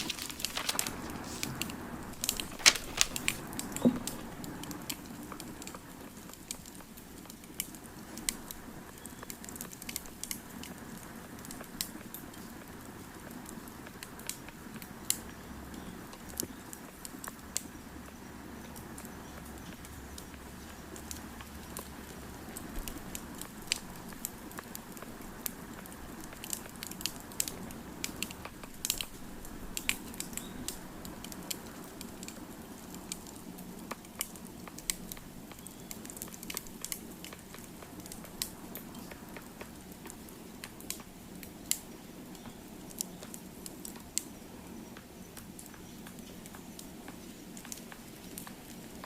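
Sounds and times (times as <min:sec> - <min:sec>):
wood fire crackling and popping: 0:00.0 - 0:15.2, 0:20.9 - 0:49.0.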